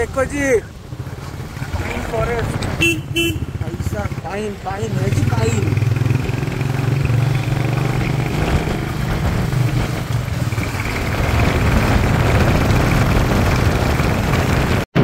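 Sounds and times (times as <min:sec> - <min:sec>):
motorcycle engine running: 0:00.8 - 0:15.0.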